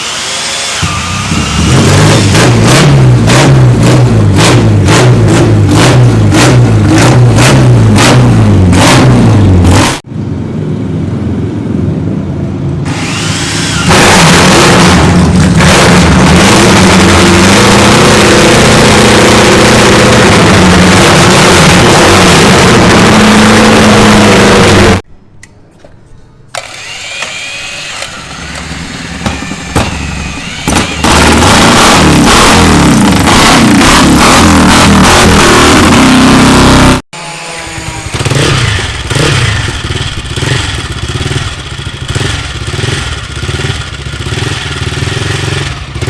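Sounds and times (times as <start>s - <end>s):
motorcycle engine revving: 0.7s - 25.0s, 26.8s - 46.0s.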